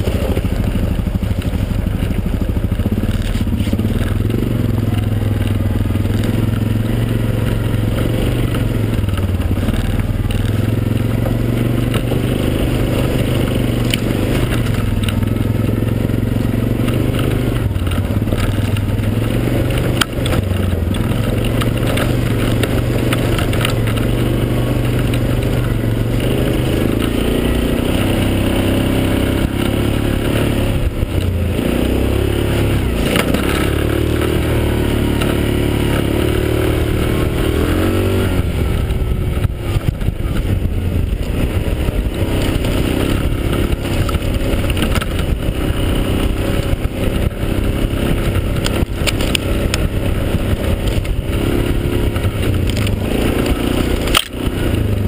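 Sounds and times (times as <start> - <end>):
gravel clattering under tyres: 0.0 - 55.0
quad engine revving: 0.0 - 55.0.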